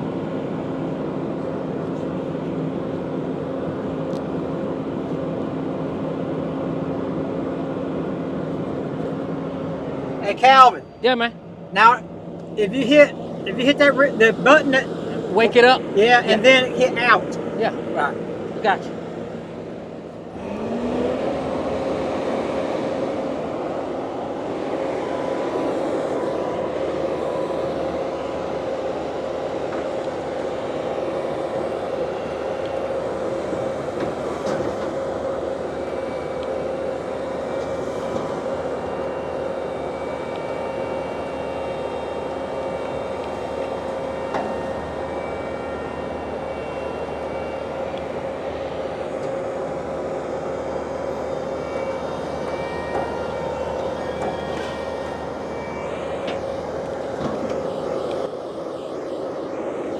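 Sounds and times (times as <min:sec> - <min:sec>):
steady whine: 0:00.0 - 0:59.9
winch engine revving: 0:08.5 - 0:59.6.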